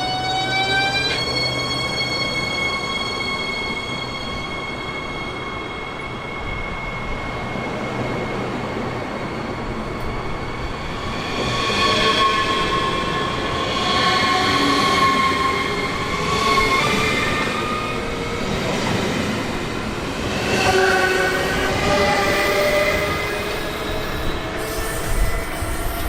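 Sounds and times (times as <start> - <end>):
electric train whine: 0.0 - 26.0
wavering train squeals: 0.0 - 26.0.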